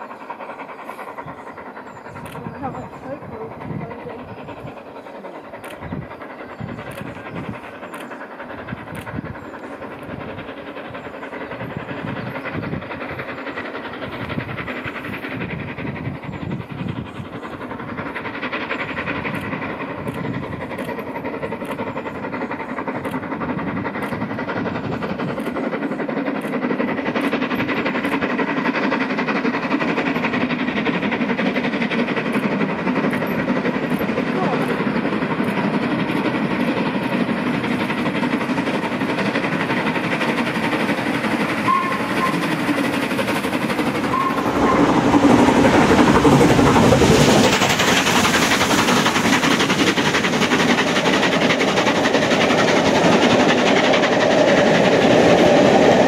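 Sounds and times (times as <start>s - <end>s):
rail noise: 0.0s - 56.0s
steam locomotive exhaust: 0.0s - 56.0s.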